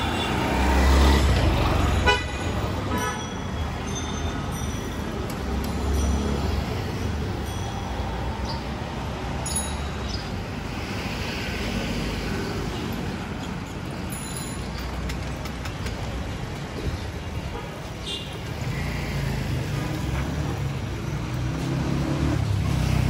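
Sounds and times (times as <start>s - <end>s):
passing vehicles: 0.0s - 23.0s.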